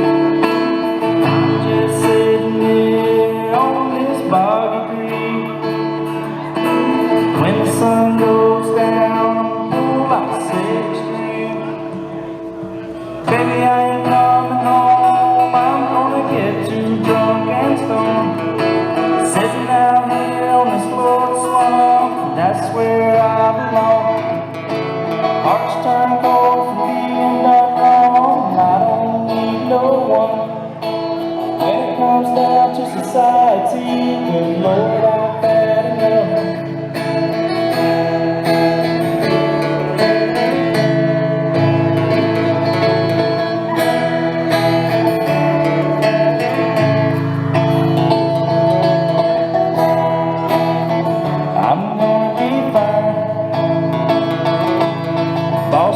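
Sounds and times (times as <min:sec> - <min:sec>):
acoustic guitar: 0:00.0 - 0:55.9
live country music: 0:00.0 - 0:55.9.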